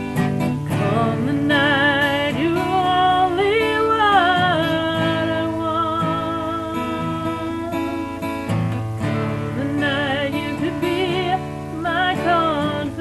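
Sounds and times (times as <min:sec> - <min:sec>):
strummed acoustic guitar: 0:00.0 - 0:13.0
woman singing slow song: 0:00.0 - 0:13.0.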